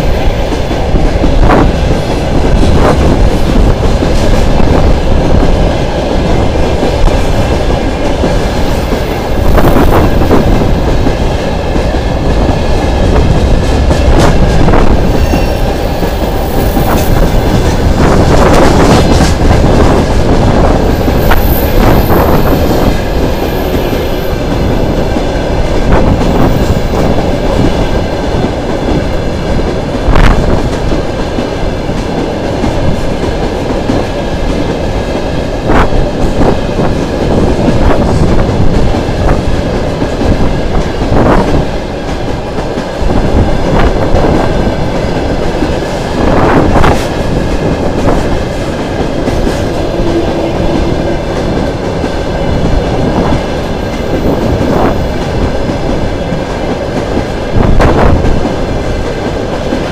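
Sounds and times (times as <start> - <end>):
steel wheels rumbling on rail: 0.0 - 59.9.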